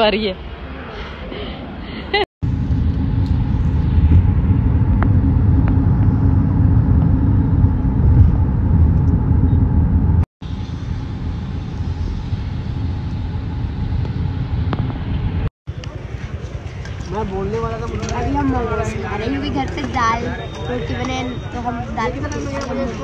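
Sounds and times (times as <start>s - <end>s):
car cabin road and engine rumble: 2.4s - 23.0s.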